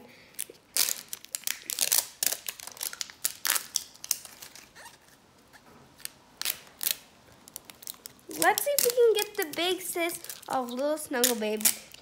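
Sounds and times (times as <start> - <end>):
foil wrapper crinkling and tearing: 0.3 - 5.2, 6.0 - 12.0.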